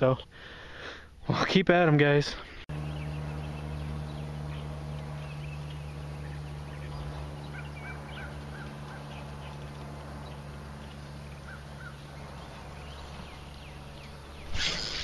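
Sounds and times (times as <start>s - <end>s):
bird chirps: 2.4s - 15.0s
low hum: 2.7s - 15.0s.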